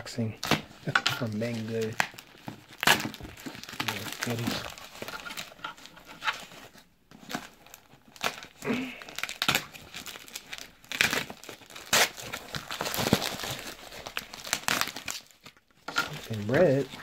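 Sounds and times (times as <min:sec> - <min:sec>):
plastic bag crinkling: 0:00.1 - 0:17.0
plastic tearing: 0:00.1 - 0:17.0.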